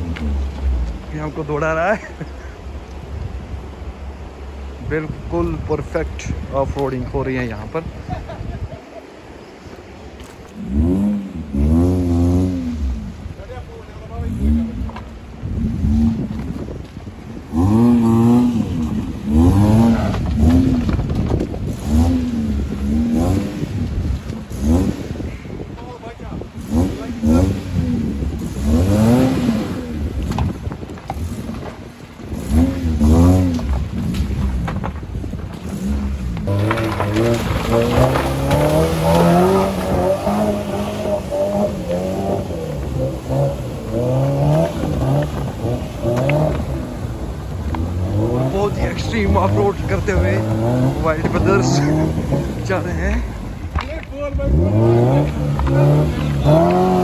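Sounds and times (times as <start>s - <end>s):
car engine revving: 0.0s - 2.3s, 10.2s - 25.6s, 26.3s - 57.0s.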